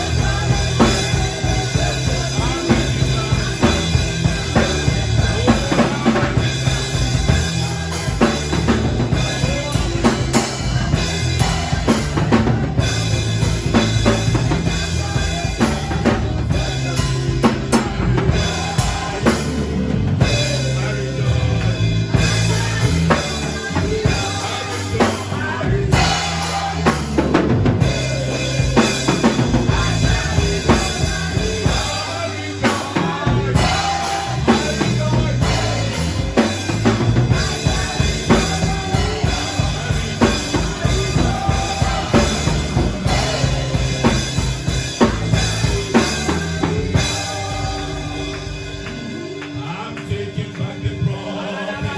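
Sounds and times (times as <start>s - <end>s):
bass line: 0.0s - 51.9s
drum kit beat: 0.0s - 51.9s.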